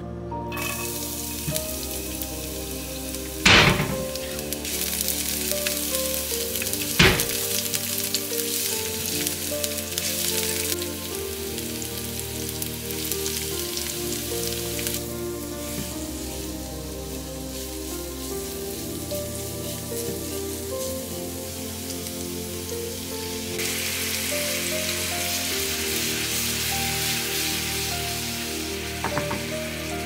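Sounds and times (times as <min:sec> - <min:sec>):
food sizzling in hot oil: 0:00.5 - 0:30.0
loud sudden bursts of sizzle: 0:00.5 - 0:30.0.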